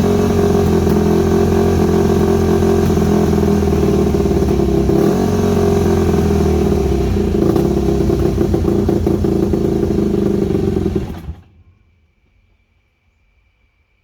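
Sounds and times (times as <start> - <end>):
dirt bike engine running: 0.0 - 11.5.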